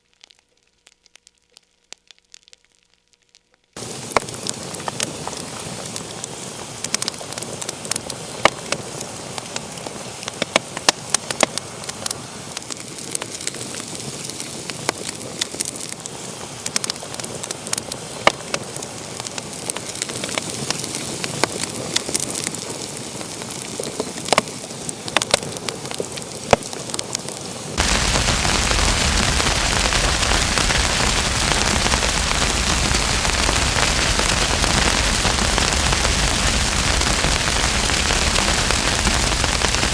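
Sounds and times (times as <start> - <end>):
wood fire crackling and popping: 0.0 - 39.9
steady hiss: 3.8 - 39.9.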